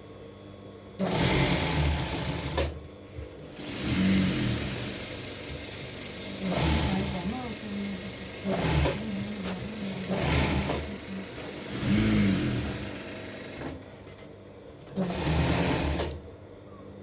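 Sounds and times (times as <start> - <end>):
electric sewing machine running: 1.0 - 2.8, 3.5 - 14.2, 14.9 - 16.2.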